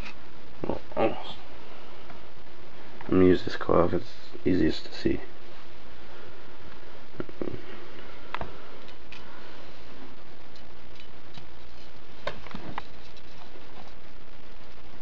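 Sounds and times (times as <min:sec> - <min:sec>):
low hum: 0:00.0 - 0:15.0
steady hiss: 0:00.0 - 0:15.0.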